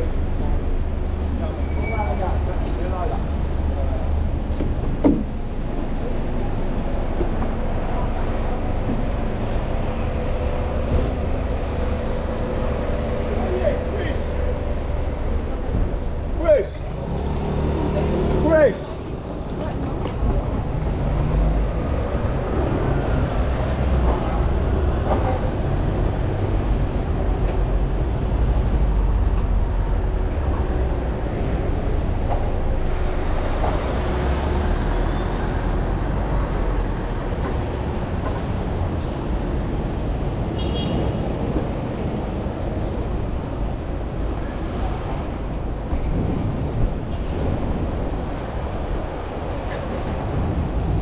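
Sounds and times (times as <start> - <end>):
city street traffic: 0.0 - 51.0
large vehicle engine rumbling: 0.0 - 51.0.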